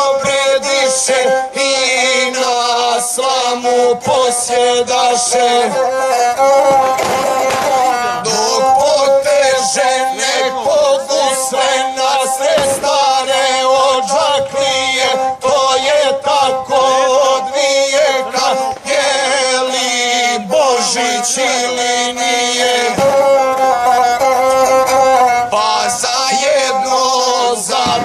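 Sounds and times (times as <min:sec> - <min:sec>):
bowed folk fiddle melody: 0:00.0 - 0:28.0.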